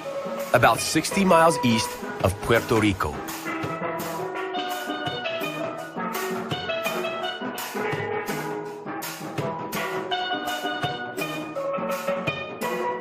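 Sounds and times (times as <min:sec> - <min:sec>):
drums with steady beat: 0:00.0 - 0:13.0
steelpan melody: 0:00.0 - 0:13.0.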